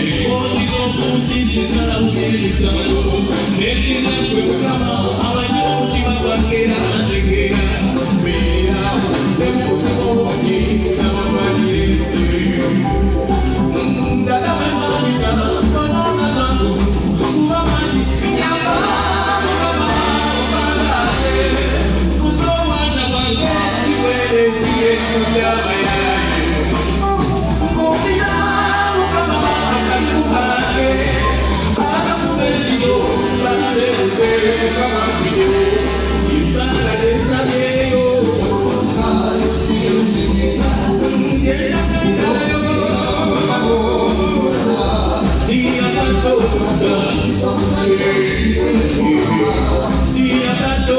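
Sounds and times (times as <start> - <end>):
live band music: 0.0 - 50.9
person singing: 0.0 - 50.9
steady bass: 0.0 - 50.9.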